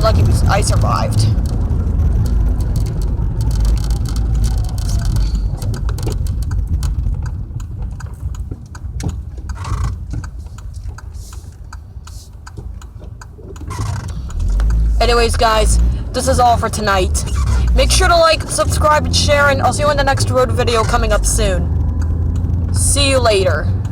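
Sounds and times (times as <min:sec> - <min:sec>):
rain ticking on car: 0:00.0 - 0:23.9
road and engine rumble: 0:00.0 - 0:23.9.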